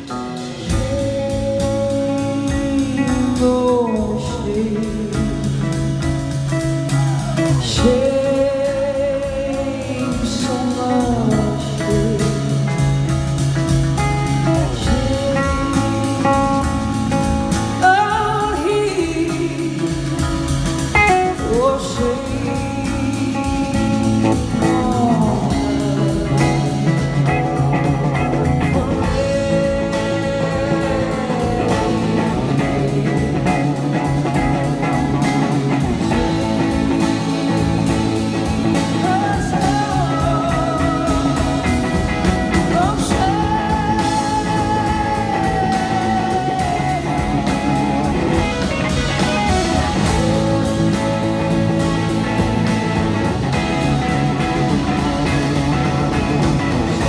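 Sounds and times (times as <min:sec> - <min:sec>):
drums: 0:00.0 - 0:57.0
electric guitar: 0:00.0 - 0:57.0
woman singing: 0:00.0 - 0:57.0.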